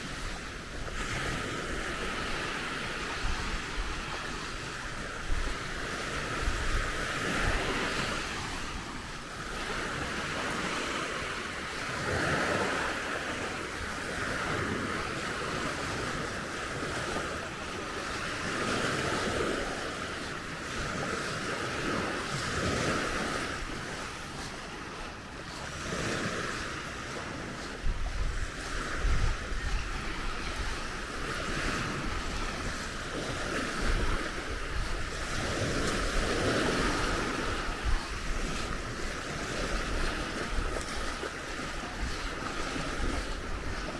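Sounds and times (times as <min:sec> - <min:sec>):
waves washing onto sand: 0:00.0 - 0:43.9
wind buffeting microphone: 0:00.0 - 0:43.9.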